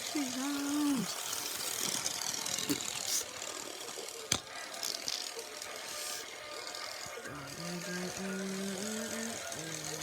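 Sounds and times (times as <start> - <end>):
toy train running on track: 0.0 - 10.0.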